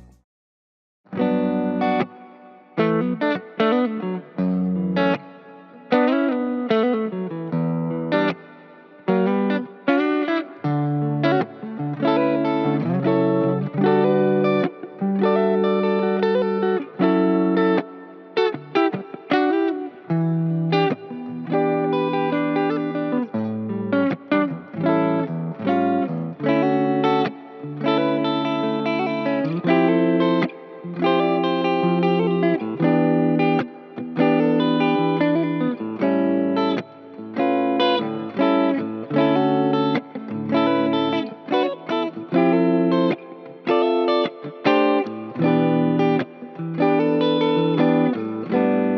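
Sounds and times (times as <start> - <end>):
electric guitar chords and notes: 0.0 - 0.2, 1.1 - 48.9.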